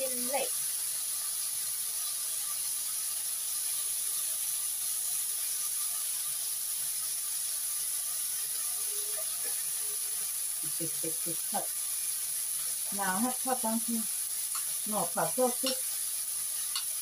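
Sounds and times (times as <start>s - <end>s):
meat and garlic sizzling in oil: 0.0s - 17.0s.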